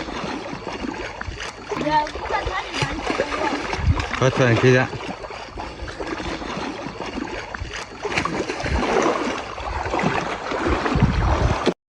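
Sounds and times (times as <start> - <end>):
water sloshing and splashing: 0.0 - 11.8.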